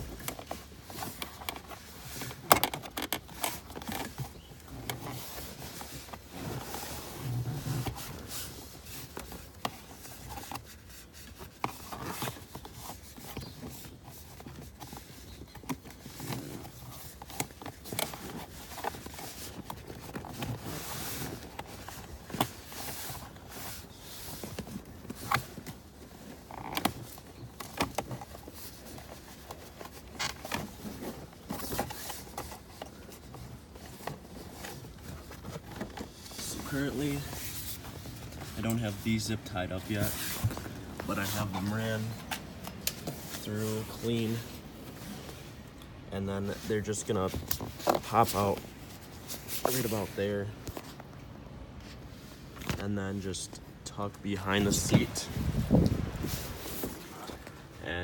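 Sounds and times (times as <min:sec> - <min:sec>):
hands scraping and rustling cables: 0:00.0 - 0:58.0.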